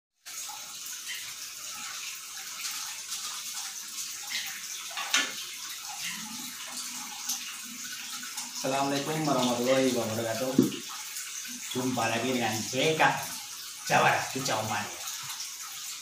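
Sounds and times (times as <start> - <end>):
water pouring into pond: 0.2 - 16.0.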